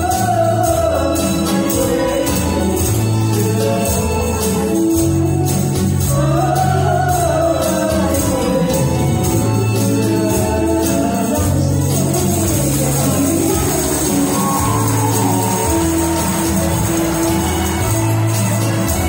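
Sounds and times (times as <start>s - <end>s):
karaoke backing track: 0.0s - 19.0s
tambourines and shakers: 0.0s - 19.0s.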